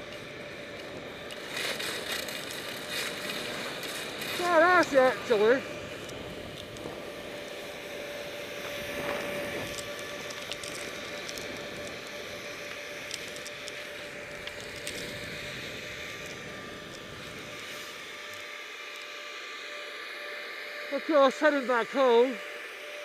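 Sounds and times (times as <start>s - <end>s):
skis sliding over snow: 0.0s - 19.8s.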